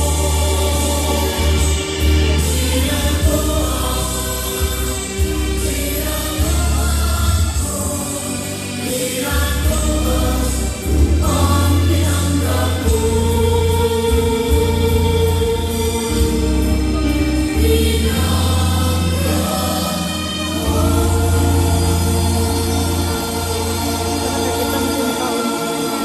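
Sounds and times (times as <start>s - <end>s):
choir singing held notes: 0.0s - 26.0s
low bass: 0.0s - 26.0s.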